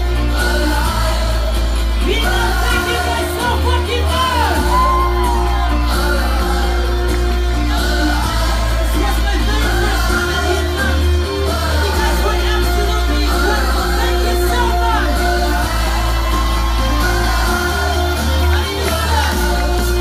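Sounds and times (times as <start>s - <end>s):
crowd shouting: 0.0s - 20.0s
electronic dance music: 0.0s - 20.0s
sung vocal line: 0.0s - 20.0s.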